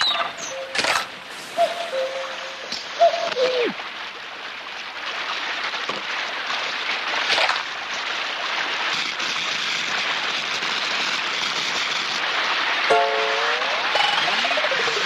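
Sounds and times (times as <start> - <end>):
rushing water: 0.0 - 15.0
water splash: 0.0 - 15.0.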